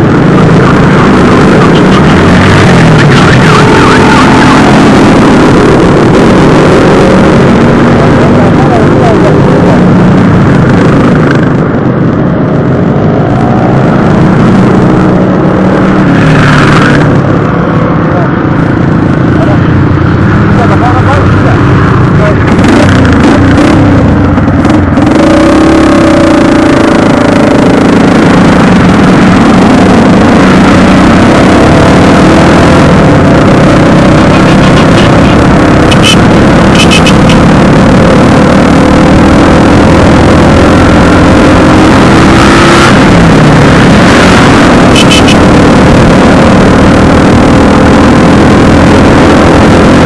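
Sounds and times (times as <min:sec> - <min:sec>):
motorcycle engines cruising: 0:00.0 - 0:50.0
rushing wind noise: 0:00.0 - 0:50.0.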